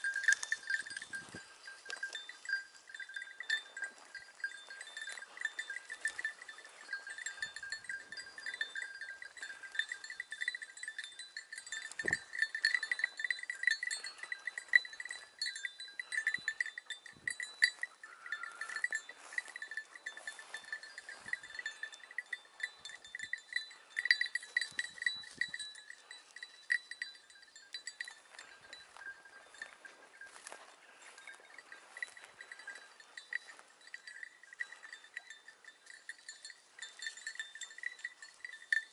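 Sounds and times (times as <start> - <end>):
small metal bells jingling: 0.0 - 38.9.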